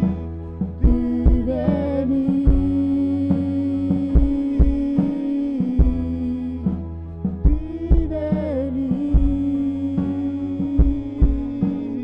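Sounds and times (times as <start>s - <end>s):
keyboard chords: 0.0s - 12.0s
person singing: 0.0s - 12.0s
sharp drum beats: 0.0s - 12.0s.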